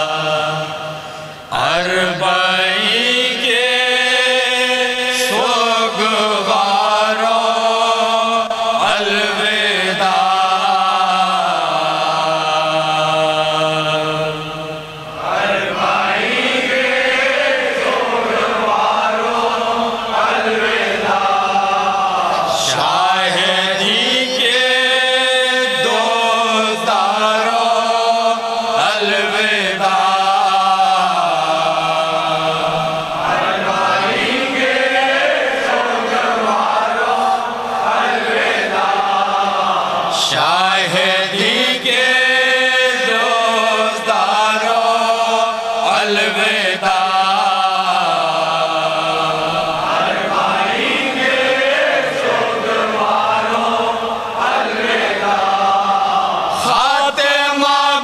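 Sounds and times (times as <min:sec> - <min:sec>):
man chanting a lament: 0:00.0 - 0:54.1, 0:54.8 - 0:58.0.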